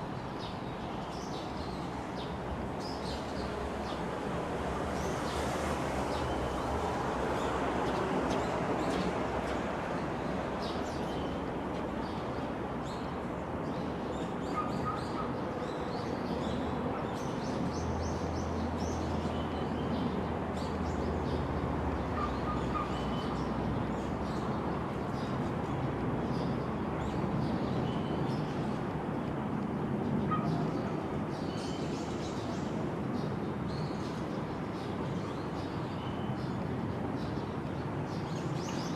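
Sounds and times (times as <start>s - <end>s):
outdoor background noise: 0.0s - 38.9s.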